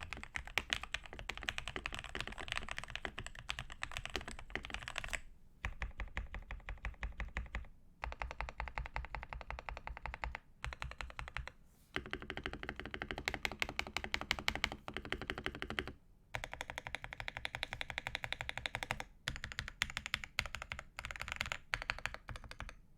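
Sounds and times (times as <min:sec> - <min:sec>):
mechanical keyboard typing: 0:00.0 - 0:22.8.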